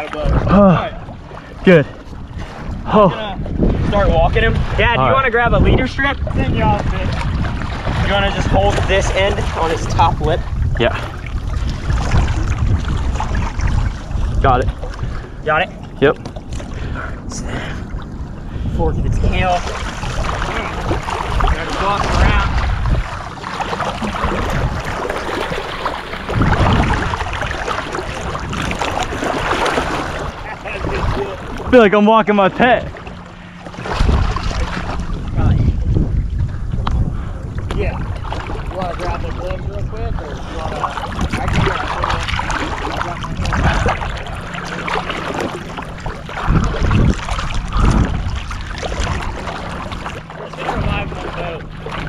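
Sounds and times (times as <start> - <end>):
wind on microphone: 0.0 - 32.0, 32.6 - 52.0
wading through splashing water: 0.0 - 52.0.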